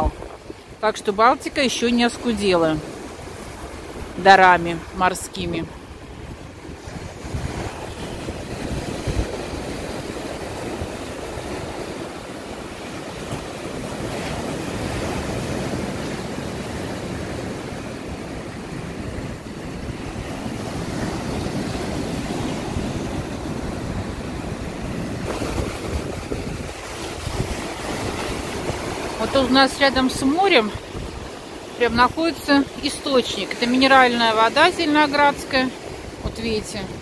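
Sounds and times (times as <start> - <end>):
wind rumbling on microphone: 0.0 - 0.9, 2.6 - 32.9
small waves breaking on beach: 0.0 - 37.0.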